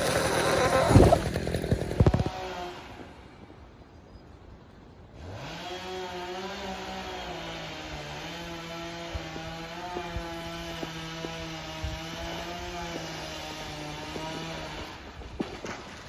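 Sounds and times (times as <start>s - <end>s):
chainsaw engine running: 0.0s - 3.2s, 5.2s - 15.2s.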